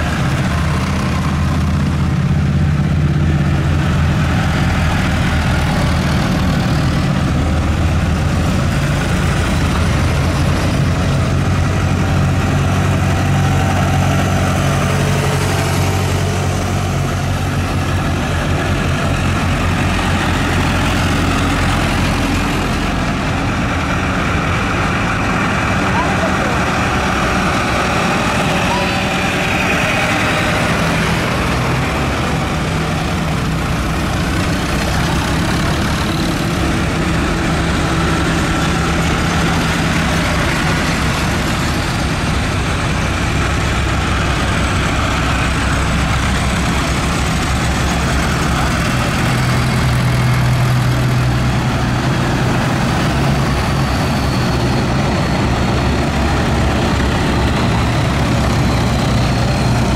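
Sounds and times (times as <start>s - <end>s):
deeper tractor engine: 0.0s - 59.9s
tractor engines driving past: 0.0s - 59.9s.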